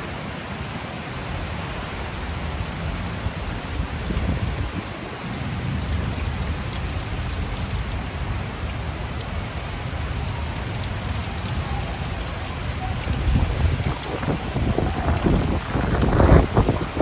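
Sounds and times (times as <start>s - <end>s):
heavy rain on a concrete roof: 0.0s - 17.0s.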